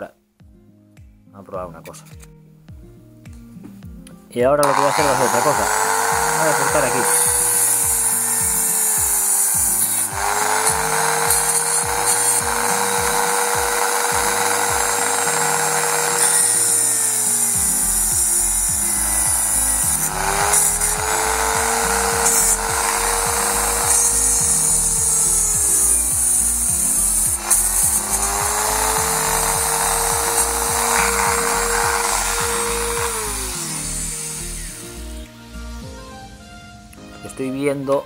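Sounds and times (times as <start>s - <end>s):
background music with steady beat: 0.0s - 38.0s
small electric power tool cutting plastic: 4.6s - 35.4s.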